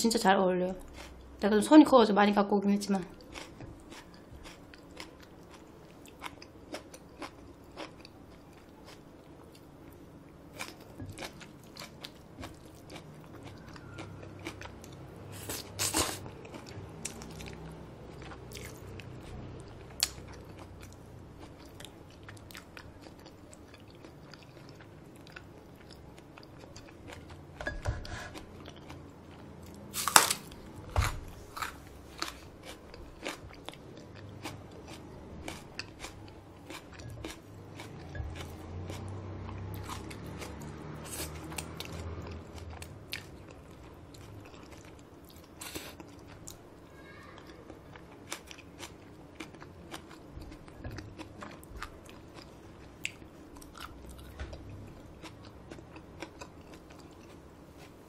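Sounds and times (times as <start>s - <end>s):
person chewing noodles: 3.1s - 46.7s, 47.4s - 58.0s.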